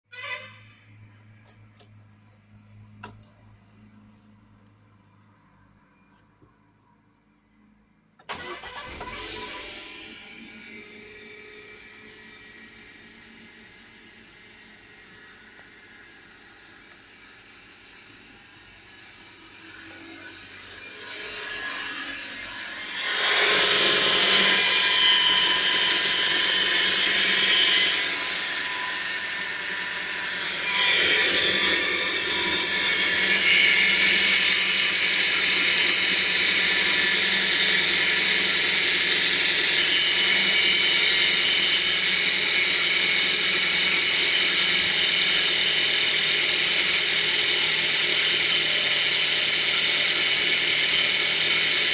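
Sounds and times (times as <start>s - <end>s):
car whirring-grinding noise: 8.2s - 51.9s.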